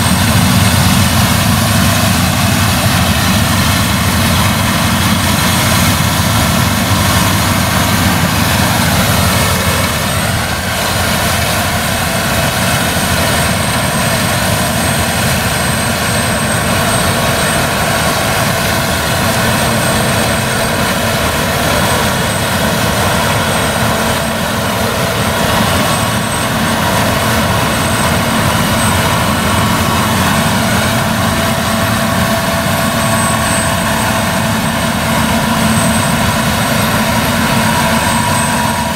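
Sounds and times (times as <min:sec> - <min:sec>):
combine harvester drone: 0:00.0 - 0:38.9
faint high whine: 0:00.0 - 0:38.9.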